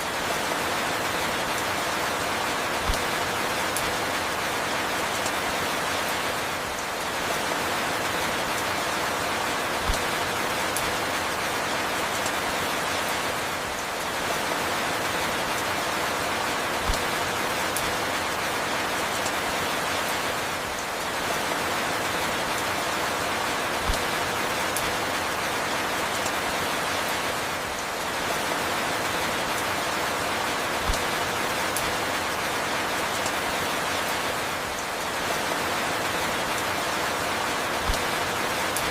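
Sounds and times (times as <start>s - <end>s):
steady falling rain: 0.0s - 38.9s.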